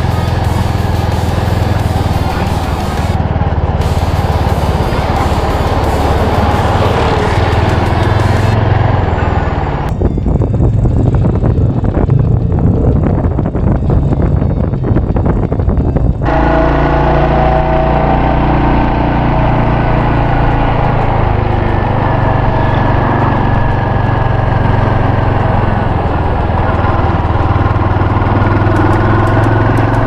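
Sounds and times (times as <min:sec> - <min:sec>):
motorcycle engine running: 0:00.0 - 0:30.0
wind noise on microphone: 0:00.0 - 0:30.0.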